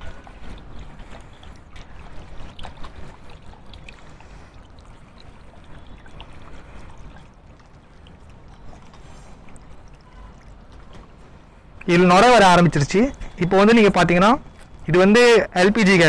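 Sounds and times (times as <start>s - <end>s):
soapy water sloshing: 0.0s - 16.0s
water dripping: 0.0s - 16.0s.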